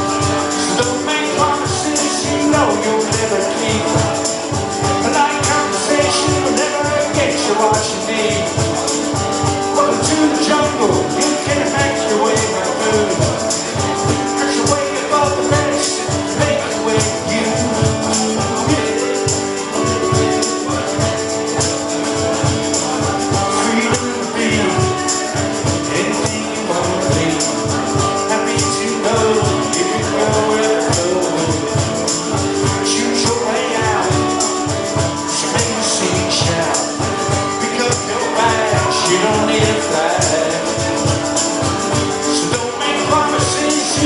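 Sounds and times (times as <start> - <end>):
rock band playing: 0.0 - 44.0
steady drum beat: 0.0 - 44.0.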